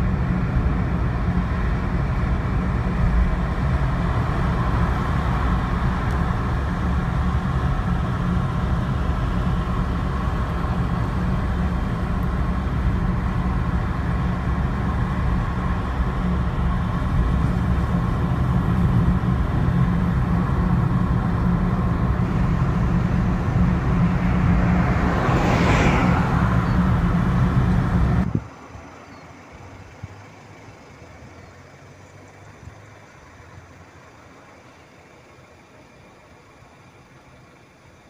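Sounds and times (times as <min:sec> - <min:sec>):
road traffic rumble: 0:00.0 - 0:38.0
vehicle passing: 0:01.8 - 0:32.6.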